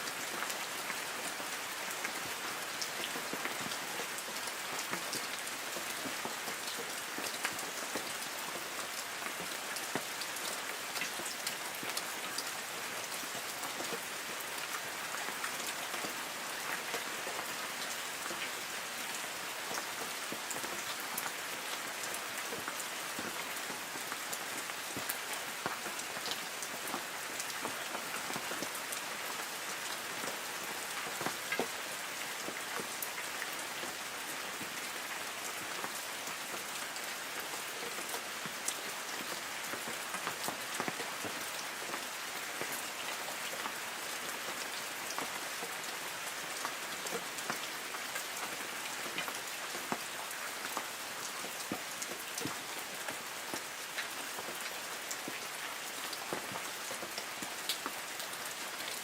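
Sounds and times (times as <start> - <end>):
raindrops ticking on leaves: 0.0 - 59.0.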